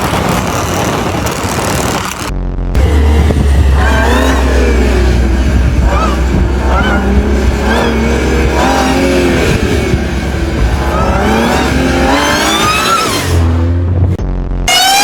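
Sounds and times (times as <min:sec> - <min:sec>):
car engine revving: 0:00.0 - 0:15.0
supercharger whine: 0:00.0 - 0:15.0.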